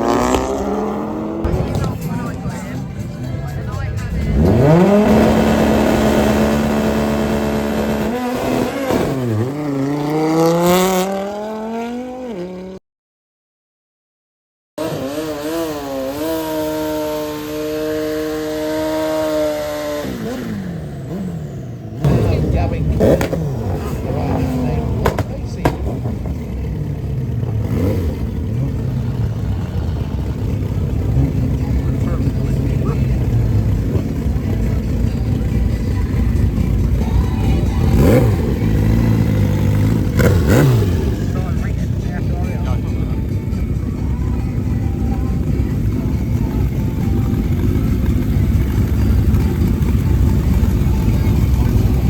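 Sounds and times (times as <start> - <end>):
racing vehicle engine revving: 0.0 - 12.8, 14.8 - 52.0.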